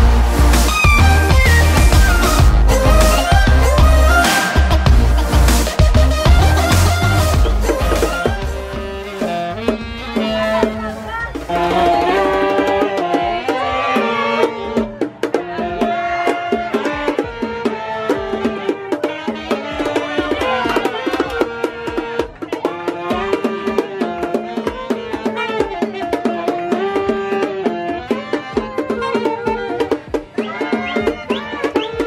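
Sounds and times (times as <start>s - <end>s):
bongo hits: 0.0s - 32.0s
saxophones playing melody: 0.0s - 32.0s.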